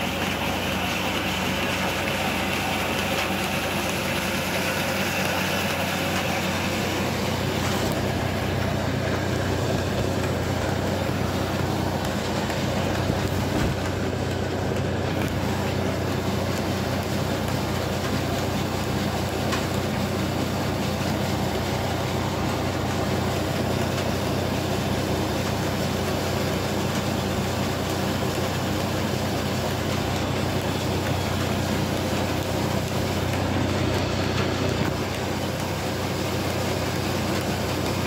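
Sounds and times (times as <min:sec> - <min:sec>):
electric flour mill grinding: 0:00.0 - 0:38.0.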